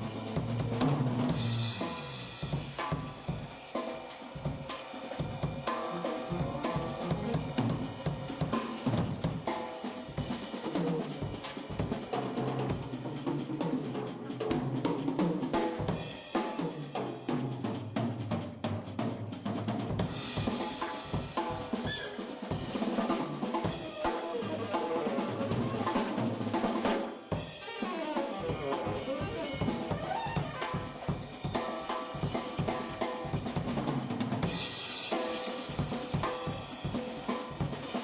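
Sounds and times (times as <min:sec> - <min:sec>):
jazz-funk band music: 0:00.0 - 0:03.1, 0:05.2 - 0:16.8, 0:18.5 - 0:38.0
drum kit playing: 0:00.0 - 0:38.0.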